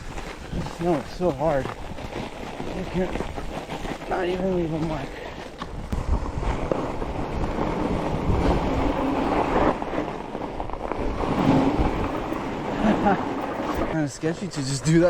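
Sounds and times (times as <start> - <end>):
bike tyres rolling over snow: 0.0 - 15.0
wind rushing over microphone: 0.0 - 15.0.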